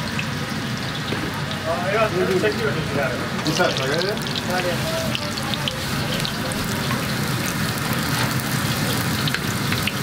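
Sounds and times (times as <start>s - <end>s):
flatbread sizzling in hot oil: 0.0s - 10.0s.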